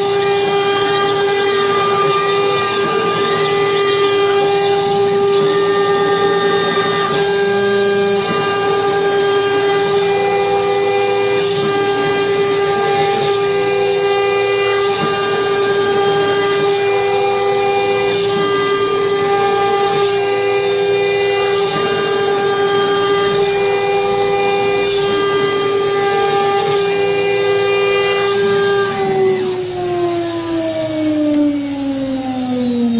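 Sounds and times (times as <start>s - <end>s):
machine whine while cutting: 0.0s - 32.9s.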